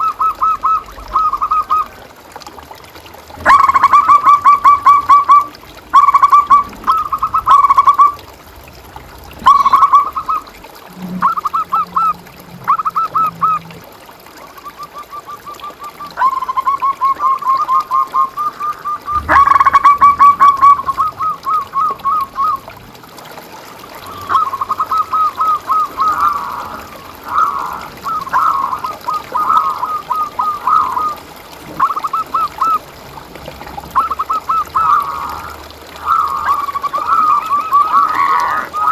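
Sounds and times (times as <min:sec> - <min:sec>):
dove cooing rippling notes: 0:00.0 - 0:38.9.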